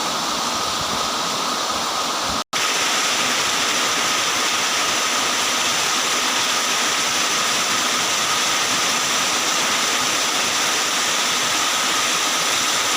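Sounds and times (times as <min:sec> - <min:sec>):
heavy rain pouring: 0:02.2 - 0:12.9.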